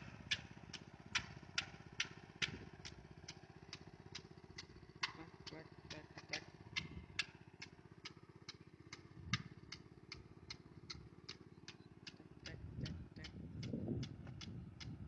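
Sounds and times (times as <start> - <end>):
small engine droning: 0.0 - 15.0
regular sharp clicking: 0.3 - 15.0.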